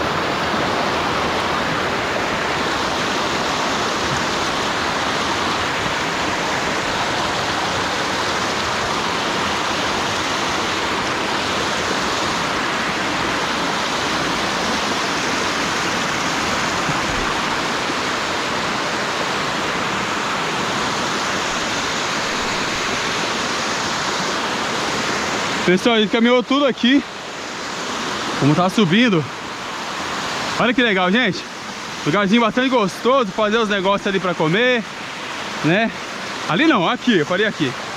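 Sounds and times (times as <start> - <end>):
water rushing over rocks: 0.0 - 37.9.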